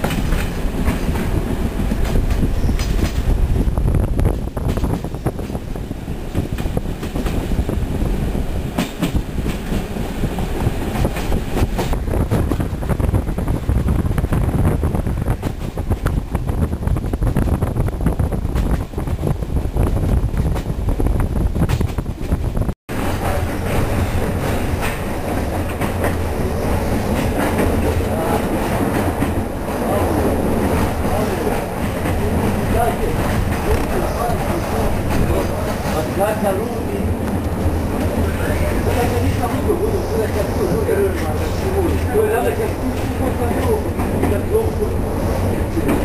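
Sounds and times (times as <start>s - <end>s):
train rumbling along track: 0.0s - 46.0s.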